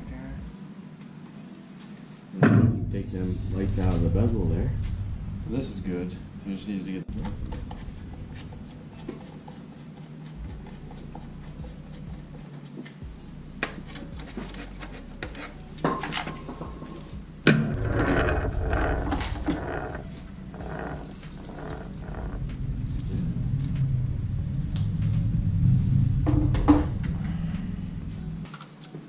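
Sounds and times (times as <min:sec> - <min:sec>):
rough scraping and rattling: 0:03.0 - 0:12.4, 0:13.5 - 0:28.4.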